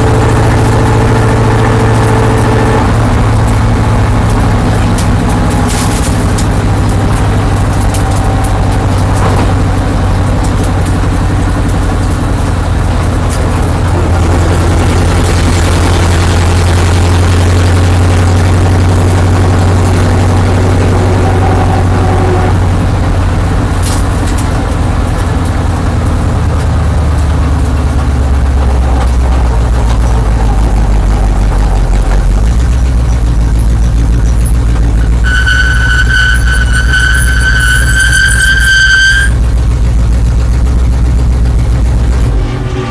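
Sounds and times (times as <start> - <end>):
race car engine running: 0.0 - 42.9.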